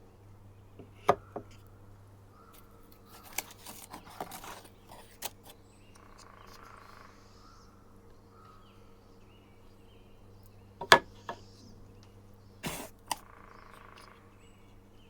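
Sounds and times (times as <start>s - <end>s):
faint bird chirps: 0.5s - 15.0s.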